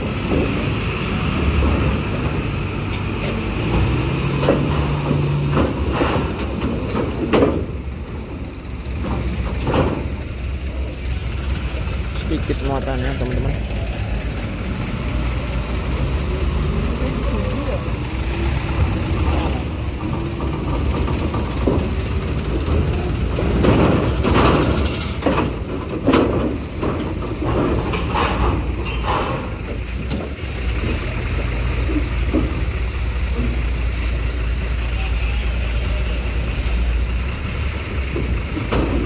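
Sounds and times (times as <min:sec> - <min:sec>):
truck engines rumbling: 0:00.0 - 0:39.0.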